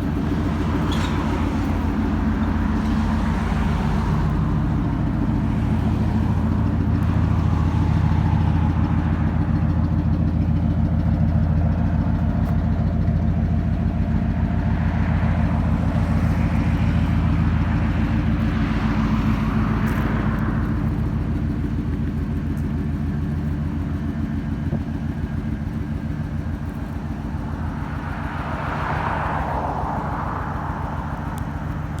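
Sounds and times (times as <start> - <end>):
pickup engine idling: 0.0 - 32.0.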